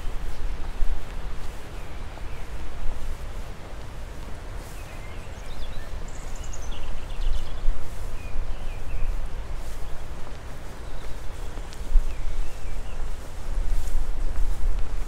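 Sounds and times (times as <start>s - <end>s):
small birds chirping: 1.3s - 14.0s.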